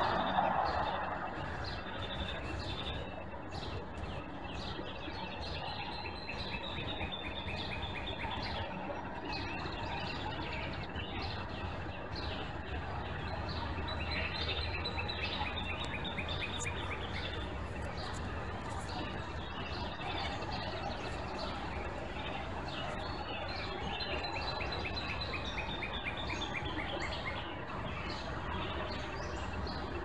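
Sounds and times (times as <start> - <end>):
songbirds calling: 0.0 - 30.0
steady background rumble: 0.0 - 30.0.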